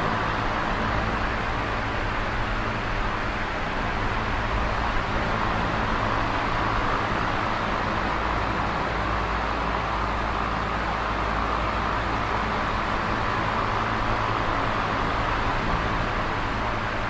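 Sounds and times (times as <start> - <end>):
electric fan air hiss: 0.0 - 17.0.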